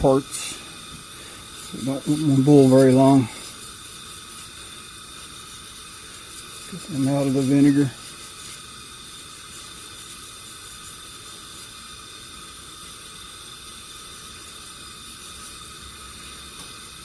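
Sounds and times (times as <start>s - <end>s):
stove burner hissing: 0.0s - 17.0s.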